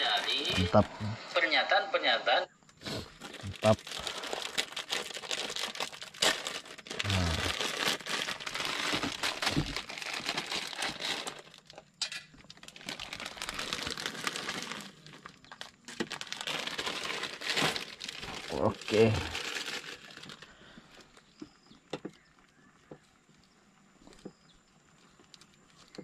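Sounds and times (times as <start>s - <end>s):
plastic packaging crinkling: 0.0s - 0.9s, 2.8s - 21.4s, 22.0s - 26.0s.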